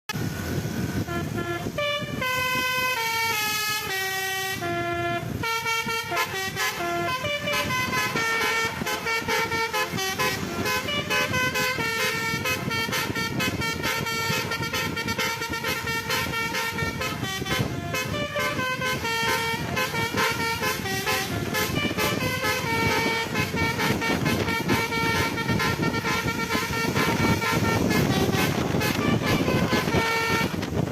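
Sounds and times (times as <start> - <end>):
bus engine rumble: 0.1 - 30.9
musical bus horn playing melody: 0.1 - 30.9.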